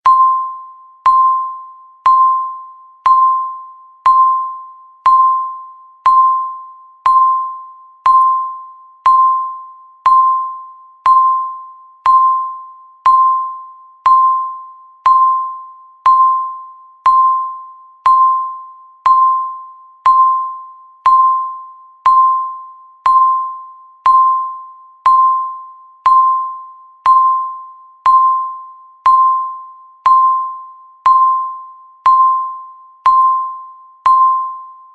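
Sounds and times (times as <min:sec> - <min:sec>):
timer ticking with bell-like dings: 0:00.0 - 0:34.9.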